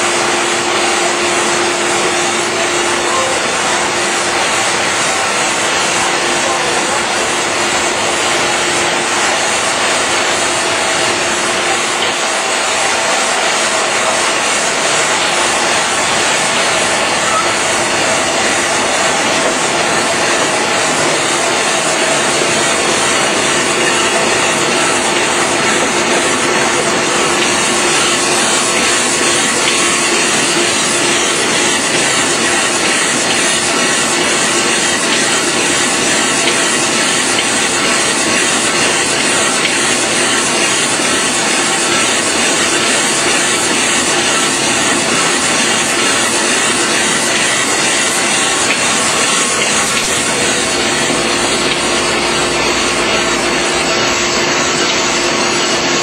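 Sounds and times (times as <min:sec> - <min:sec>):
printing machine running: 0:00.0 - 0:56.0.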